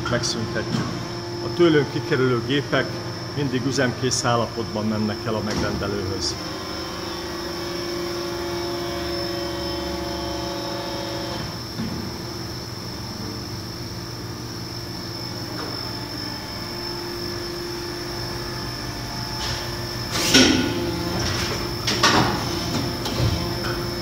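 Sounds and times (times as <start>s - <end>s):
machine hum with whine: 0.0s - 24.0s.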